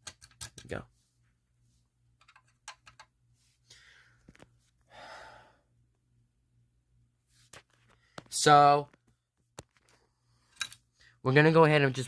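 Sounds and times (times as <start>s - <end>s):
faint steady hum: 0.2s - 12.0s.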